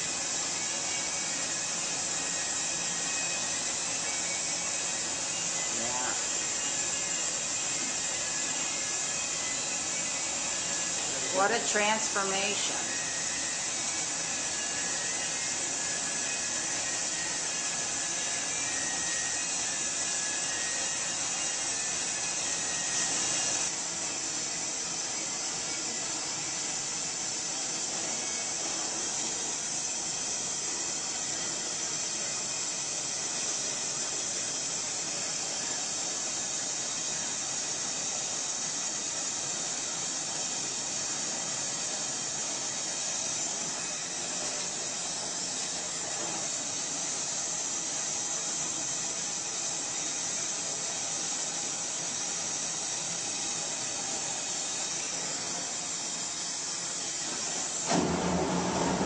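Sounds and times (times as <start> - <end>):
gas torch hissing: 0.0 - 59.0.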